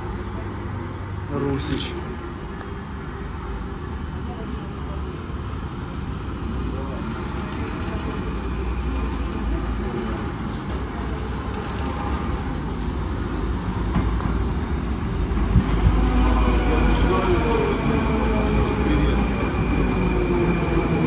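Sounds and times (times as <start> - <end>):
metro train rumbling: 0.0 - 21.0.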